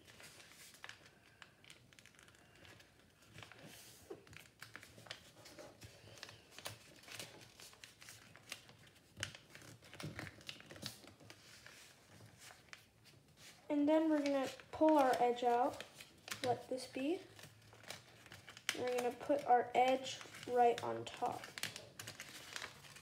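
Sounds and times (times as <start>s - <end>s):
paper rustling and crinkling: 0.0s - 23.0s.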